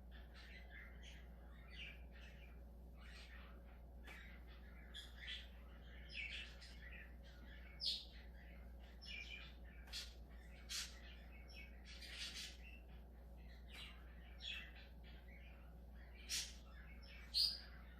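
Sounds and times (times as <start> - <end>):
budgerigar chirping and warbling: 0.1 - 17.9.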